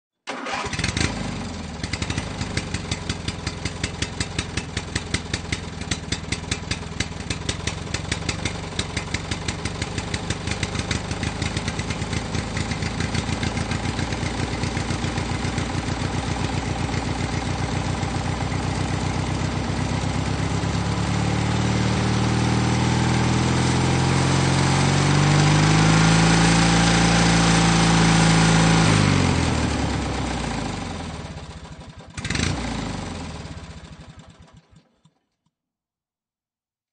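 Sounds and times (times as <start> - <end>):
two-stroke engine revving: 0.3 - 34.7.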